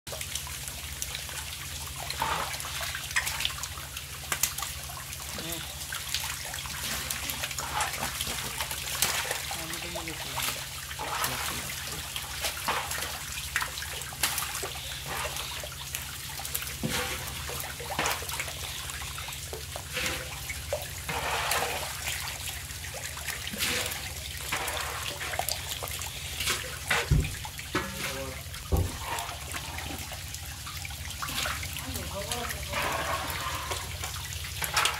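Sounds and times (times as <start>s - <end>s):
fish splashing in shallow water: 0.1s - 34.9s.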